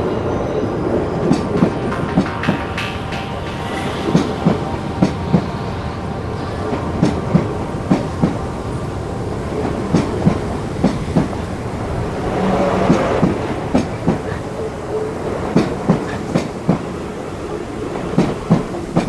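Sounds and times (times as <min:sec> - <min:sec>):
train rumbling past: 0:00.0 - 0:19.0
wheels clacking over rail joints: 0:01.0 - 0:19.0.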